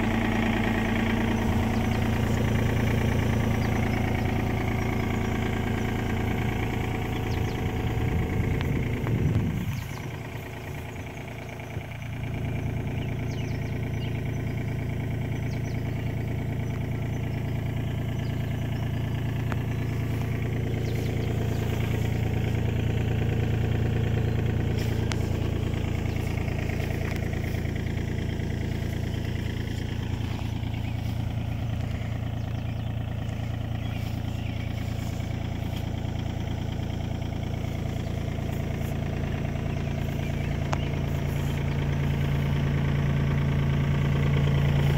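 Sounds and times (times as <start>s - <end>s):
excavator diesel engine idling: 0.0s - 44.9s.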